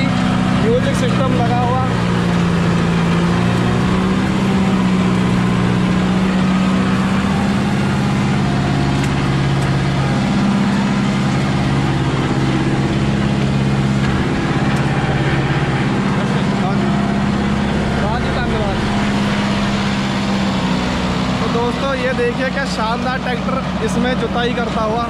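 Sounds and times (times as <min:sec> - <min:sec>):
diesel tractor engine under load: 0:00.0 - 0:25.0.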